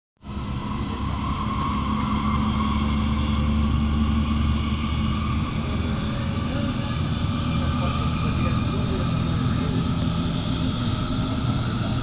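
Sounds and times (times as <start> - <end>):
train higher hum: 0.2 - 12.0
train low rumble: 0.2 - 12.0.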